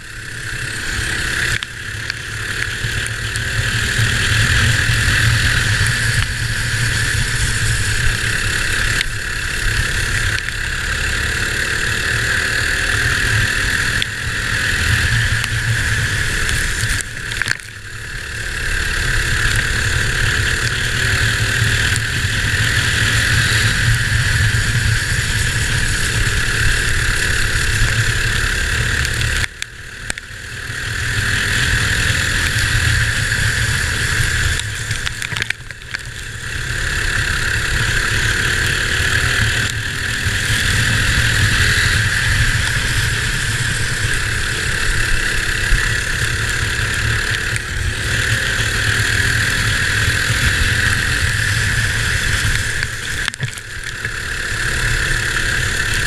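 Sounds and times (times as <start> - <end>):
go-kart engine revving high: 0.0 - 56.0.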